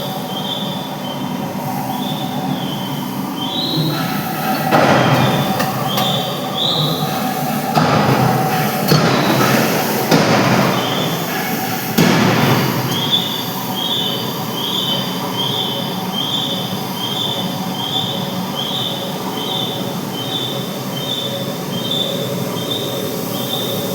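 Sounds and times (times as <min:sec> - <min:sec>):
forge machine noise: 0:00.0 - 0:23.9.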